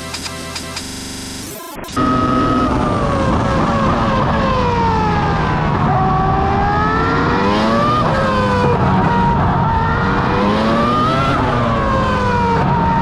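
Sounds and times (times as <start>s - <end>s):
vehicle engine running loudly: 0.0s - 13.0s.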